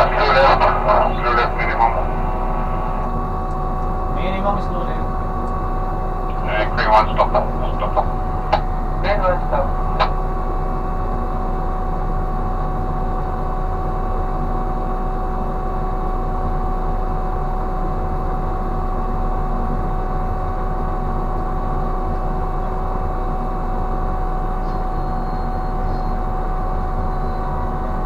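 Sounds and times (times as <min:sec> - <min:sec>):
high machine whine: 0:00.0 - 0:17.1, 0:20.6 - 0:28.0
crane machinery deep hum: 0:00.0 - 0:28.0.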